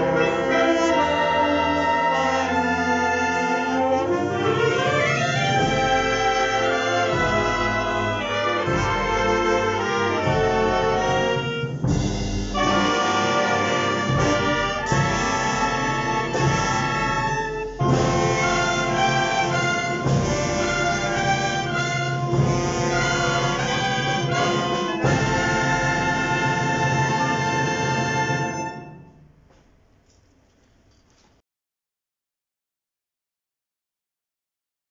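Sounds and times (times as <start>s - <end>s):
wind band playing: 0.0s - 29.2s.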